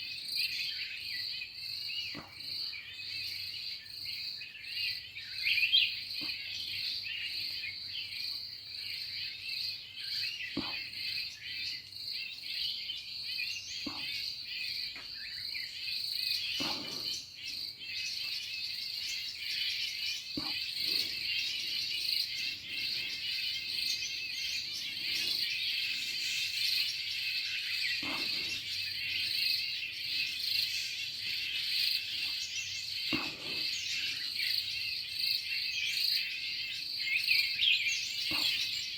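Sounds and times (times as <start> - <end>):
birds chirping: 0.0 - 38.9
high insect chorus: 0.0 - 38.9.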